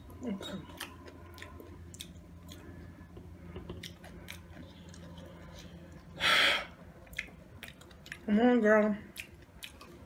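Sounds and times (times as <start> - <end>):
person chewing chips: 0.0 - 8.3, 9.1 - 10.0.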